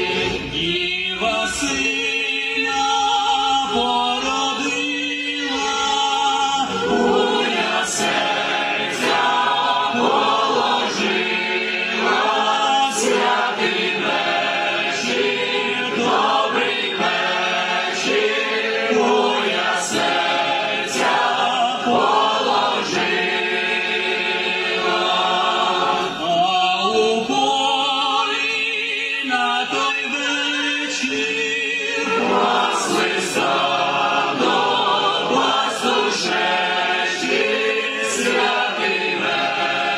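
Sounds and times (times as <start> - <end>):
choir singing a carol: 0.0 - 39.9.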